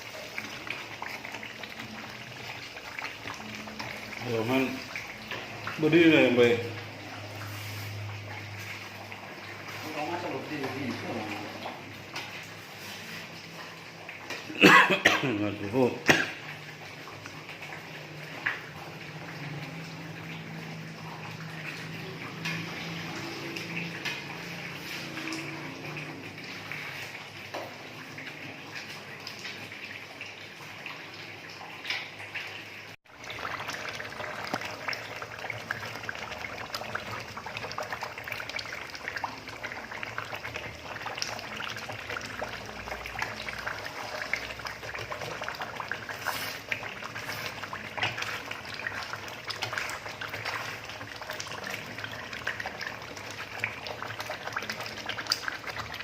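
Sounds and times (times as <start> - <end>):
food crackling and bubbling in a pan: 0.0 - 56.0.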